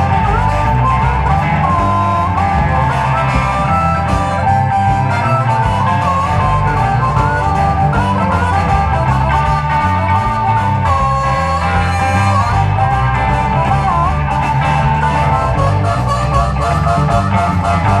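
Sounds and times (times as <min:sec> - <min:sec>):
bass guitar: 0:00.0 - 0:18.0
electric guitars: 0:00.0 - 0:18.0
harmonica solo: 0:00.0 - 0:18.0
steady drum beat: 0:00.0 - 0:18.0.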